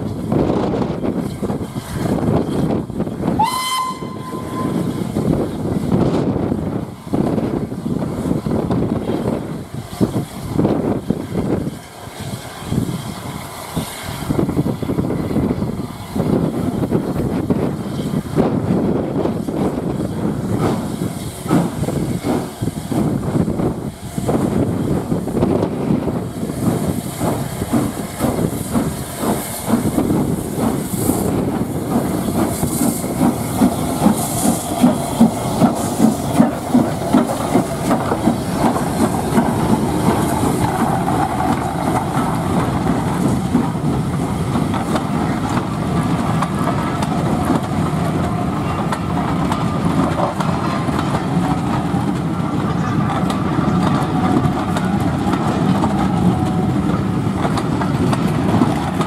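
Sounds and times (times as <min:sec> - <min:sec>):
steam locomotive exhaust beats: 0:00.0 - 0:59.0
train wheels clattering on rails: 0:00.0 - 0:59.0
steam hissing: 0:00.1 - 0:59.0.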